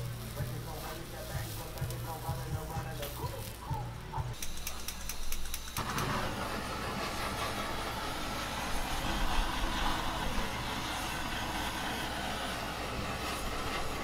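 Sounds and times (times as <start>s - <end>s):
blowtorch flame hissing roar: 0.0s - 14.0s.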